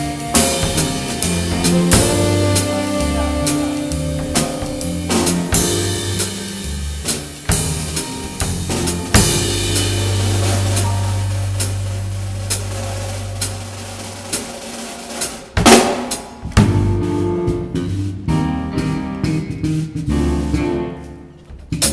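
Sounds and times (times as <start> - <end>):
drum kit playing: 0.0 - 21.9
low bass notes: 0.0 - 21.9.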